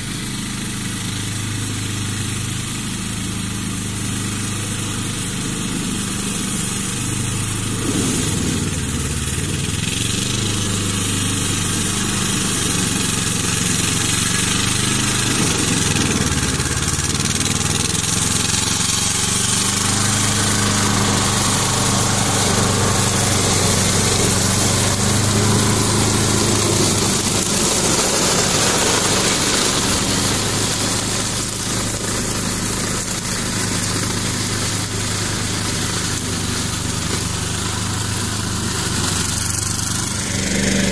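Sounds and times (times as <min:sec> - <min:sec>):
diesel tractor engine: 0:00.0 - 0:40.9
brush cutter chopping reeds: 0:01.2 - 0:40.9.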